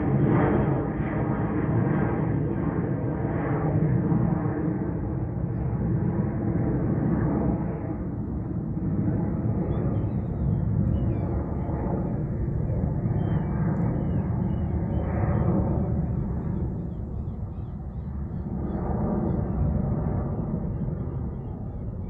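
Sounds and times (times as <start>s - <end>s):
distant jet engines rumbling: 0.0s - 22.0s.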